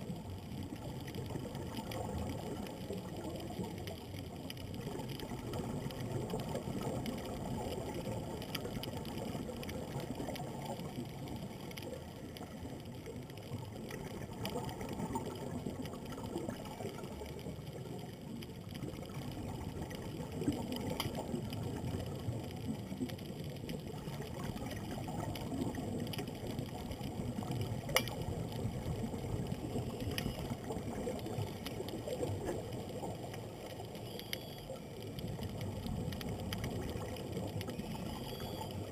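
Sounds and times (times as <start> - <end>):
faint clicks: 0.0 - 38.9
underwater water noise: 0.0 - 38.9.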